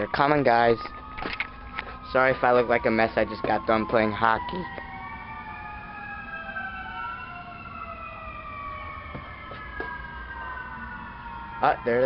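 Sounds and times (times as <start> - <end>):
fire truck sirens wailing: 0.0 - 12.0.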